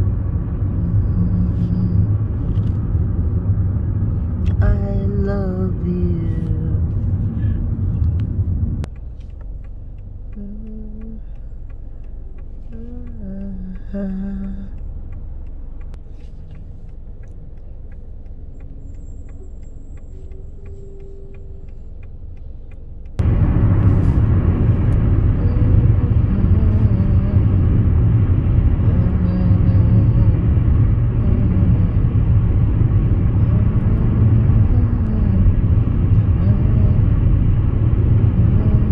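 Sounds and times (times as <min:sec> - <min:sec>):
turn signal ticking: 0:00.0 - 0:23.7, 0:24.3 - 0:38.9
car engine idle hum: 0:00.0 - 0:38.9
road and engine rumble: 0:00.0 - 0:38.9.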